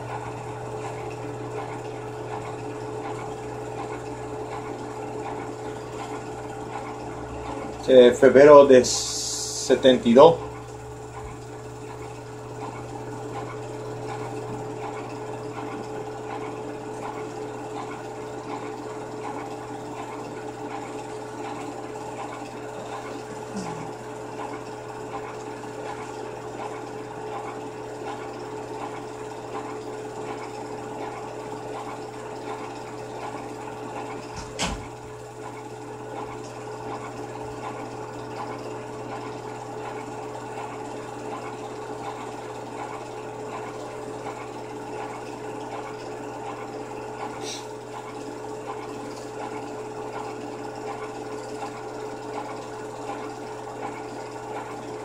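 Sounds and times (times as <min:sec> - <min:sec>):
projector motor hum: 0:00.0 - 0:55.0.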